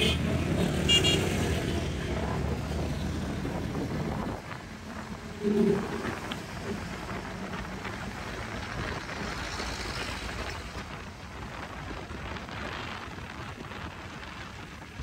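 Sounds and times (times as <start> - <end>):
wind buffeting microphone: 1.6 - 15.0.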